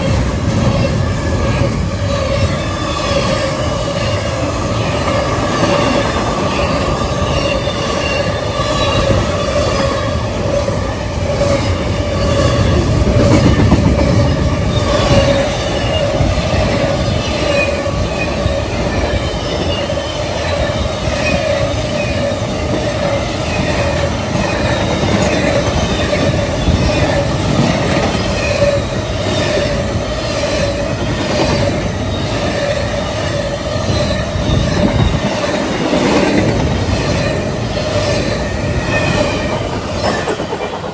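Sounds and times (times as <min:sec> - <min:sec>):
train wheel squeal: 0:00.0 - 0:40.9.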